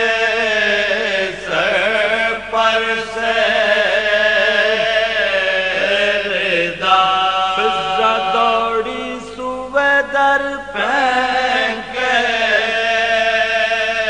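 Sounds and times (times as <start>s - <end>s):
man chanting melodic lines: 0.0s - 14.0s.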